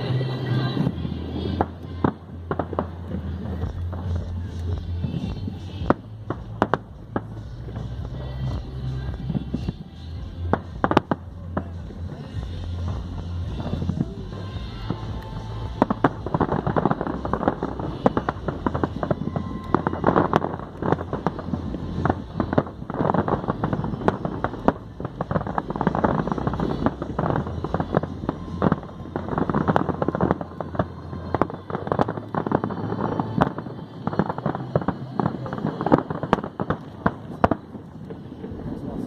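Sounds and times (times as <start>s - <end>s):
noisy background: 0.0s - 39.0s.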